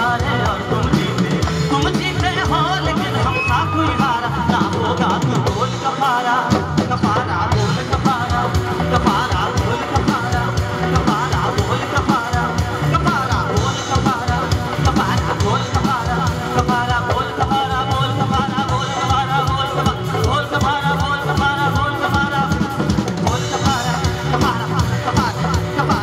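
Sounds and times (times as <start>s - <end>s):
live band music: 0.0s - 26.0s
man singing into microphone: 0.0s - 26.0s.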